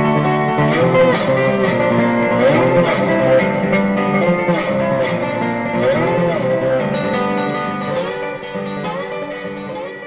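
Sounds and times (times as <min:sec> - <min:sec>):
picked acoustic guitar music: 0:00.0 - 0:10.0.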